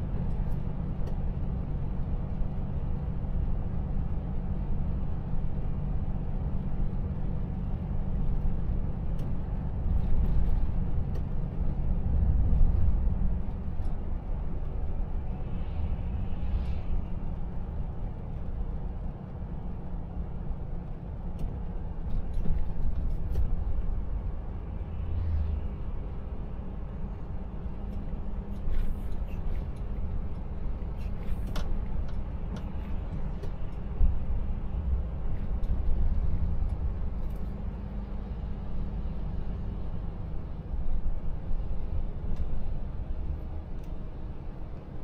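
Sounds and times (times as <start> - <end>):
truck engine and tyres rumbling: 0.0 - 45.0.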